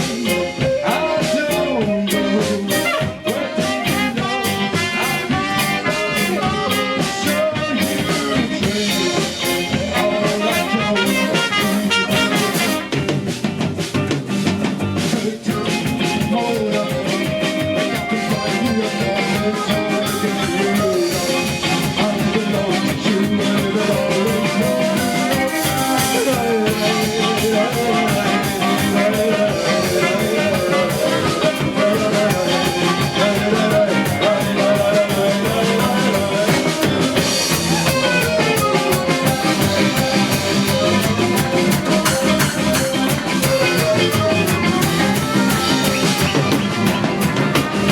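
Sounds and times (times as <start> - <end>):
drum kit: 0.0 - 47.9
guitar: 0.0 - 47.9.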